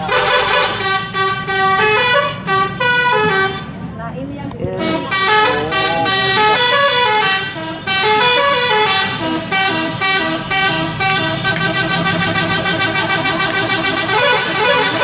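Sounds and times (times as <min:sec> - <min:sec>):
musical bus horn melody: 0:00.0 - 0:03.8, 0:04.8 - 0:15.0.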